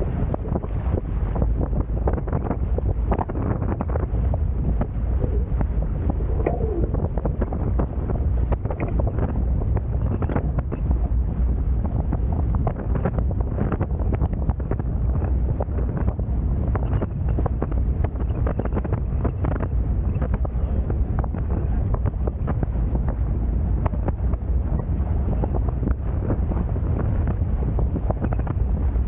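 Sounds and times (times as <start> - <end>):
water rushing along hulls: 0.0 - 29.0
wind buffeting microphone: 0.0 - 29.0.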